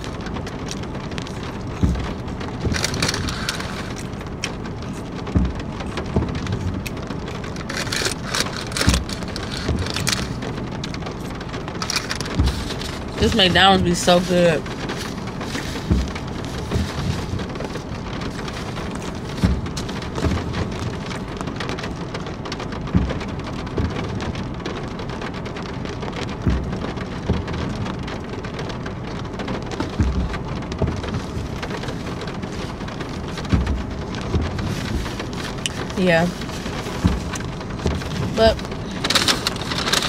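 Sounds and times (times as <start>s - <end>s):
soft low thuds: 0.0s - 7.7s, 8.9s - 24.6s, 25.5s - 28.3s, 28.9s - 39.0s
rain on car roof: 0.0s - 40.0s.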